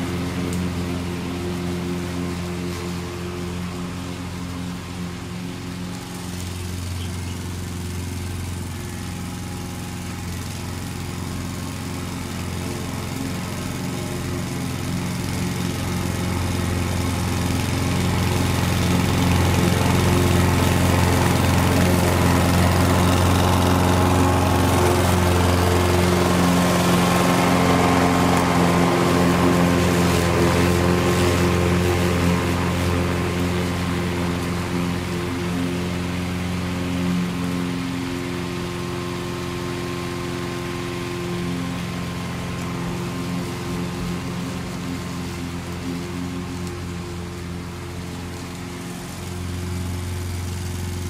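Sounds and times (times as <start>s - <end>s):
lawn mower engine running: 0.0s - 51.0s.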